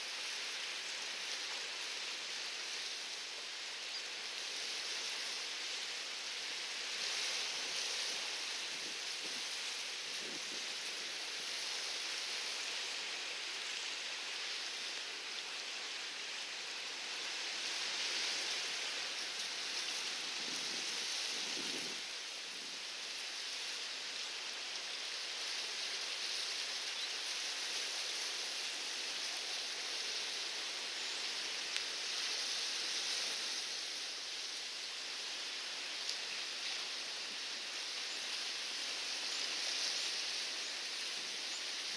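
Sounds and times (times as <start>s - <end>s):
steady outdoor hiss: 0.0s - 41.9s.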